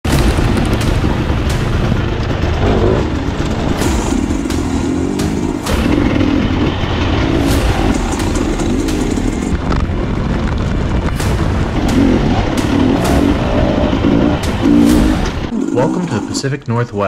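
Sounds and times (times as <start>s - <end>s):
dirt bike engine revving: 0.1s - 10.0s, 10.6s - 16.4s.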